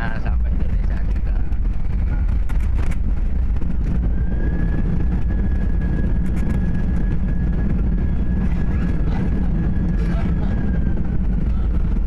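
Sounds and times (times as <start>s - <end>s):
jet and wheels rumbling: 0.0s - 12.0s.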